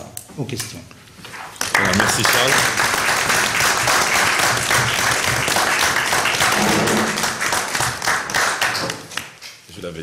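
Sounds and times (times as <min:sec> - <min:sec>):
people clapping: 0:01.5 - 0:09.6.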